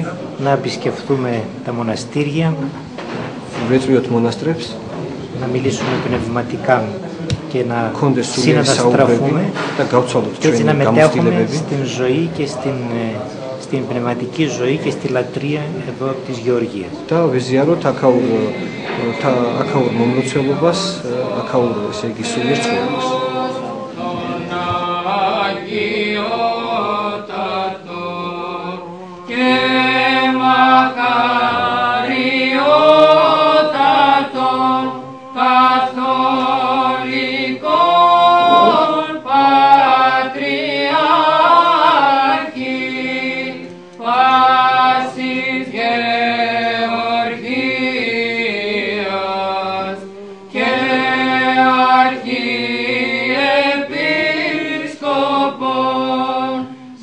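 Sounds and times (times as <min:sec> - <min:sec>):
choir singing chant: 0:07.6 - 0:15.4, 0:16.3 - 0:57.0.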